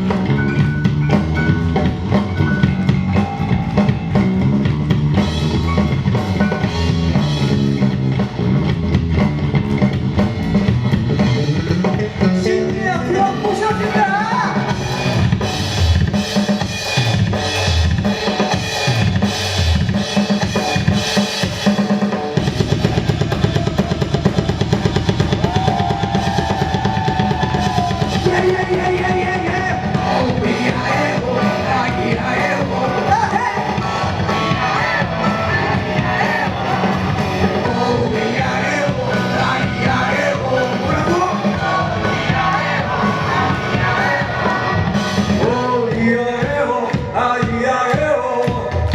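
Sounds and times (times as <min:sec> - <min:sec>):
sliding lead guitar line: 0:00.0 - 0:15.9, 0:22.8 - 0:46.2
bass guitar: 0:00.0 - 0:48.9
drum kit: 0:00.0 - 0:48.9.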